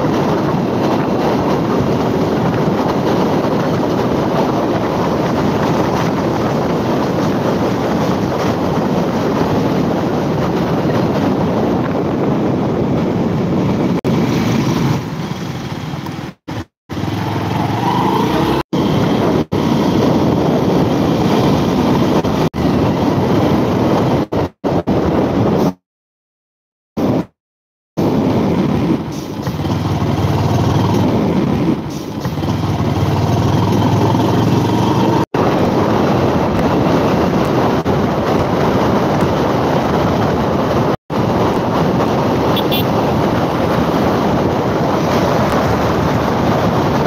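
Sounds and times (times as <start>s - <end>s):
wind and road noise rushing: 0.0s - 25.8s, 27.0s - 27.4s, 28.0s - 47.0s.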